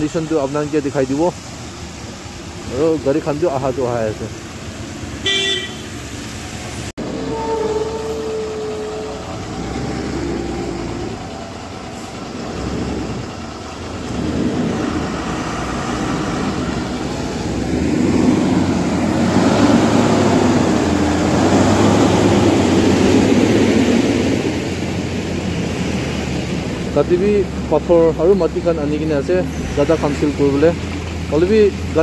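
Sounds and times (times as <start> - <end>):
diesel truck driving past: 5.9 - 32.0.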